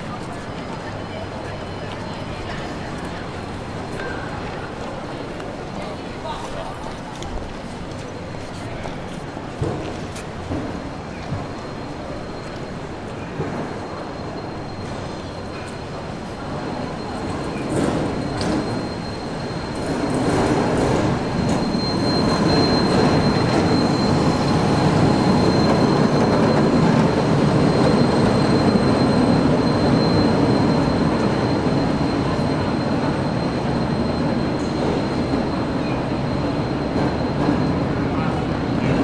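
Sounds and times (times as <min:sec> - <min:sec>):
steel wheels squealing on rail: 0:00.0 - 0:39.0
tram rumbling on rails: 0:00.0 - 0:39.0.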